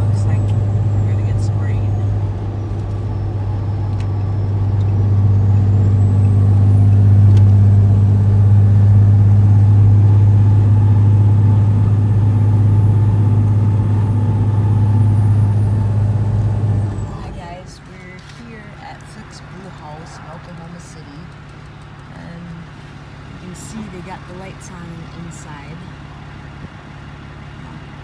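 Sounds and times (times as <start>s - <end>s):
diesel truck driving from inside cab: 0.0s - 28.0s.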